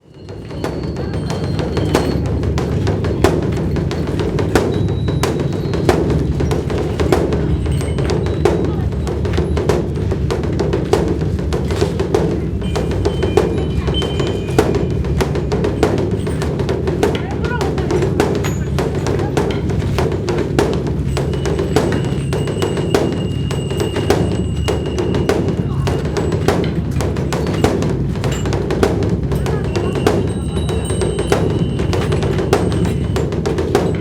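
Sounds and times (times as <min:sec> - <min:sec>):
drum rolling rumble: 0:00.0 - 0:34.0
drumstick strikes: 0:00.1 - 0:34.0.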